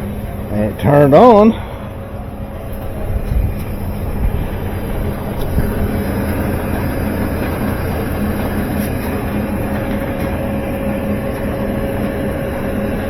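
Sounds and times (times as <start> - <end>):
clothes dryer running: 0.0 - 13.0.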